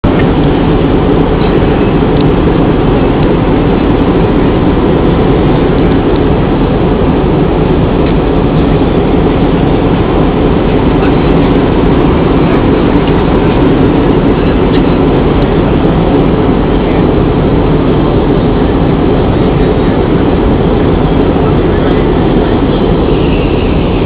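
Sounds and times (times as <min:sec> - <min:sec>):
jet engines roaring: 0:00.0 - 0:24.0
rushing air: 0:00.0 - 0:24.0.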